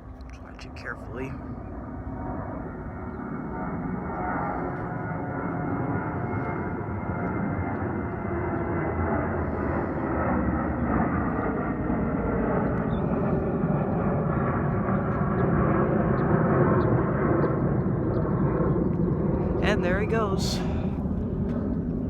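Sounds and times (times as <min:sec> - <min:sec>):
jet engines at takeoff power: 0:00.0 - 0:22.0.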